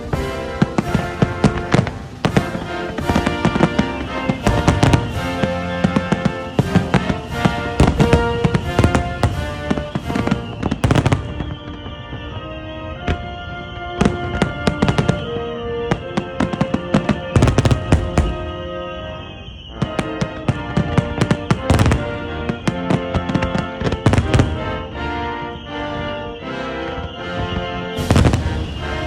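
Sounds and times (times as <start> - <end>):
fireworks bangs: 0.0 - 29.0
music with held notes: 0.0 - 29.0.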